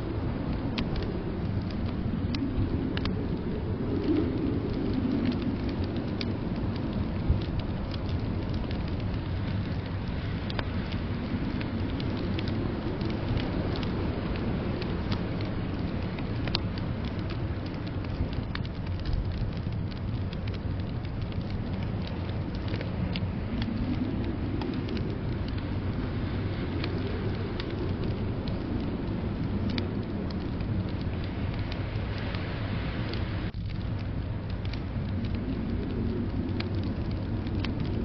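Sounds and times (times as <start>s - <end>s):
blizzard wind rushing: 0.0s - 38.0s
wood fire crackling and popping: 0.0s - 38.0s.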